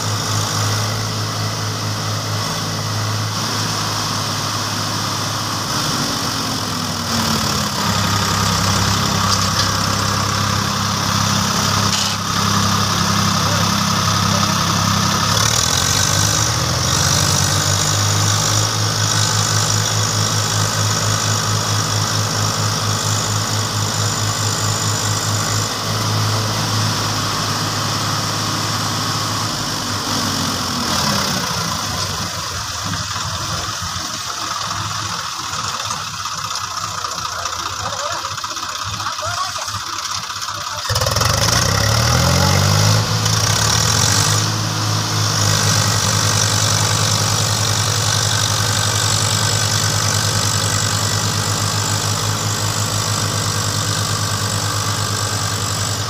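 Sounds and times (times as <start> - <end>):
tractor diesel engines under load: 0.0 - 56.0.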